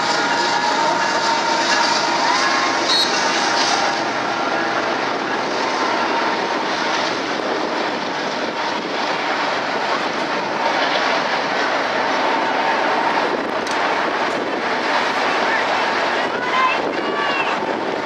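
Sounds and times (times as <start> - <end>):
steel wheels on rails: 0.0 - 18.0.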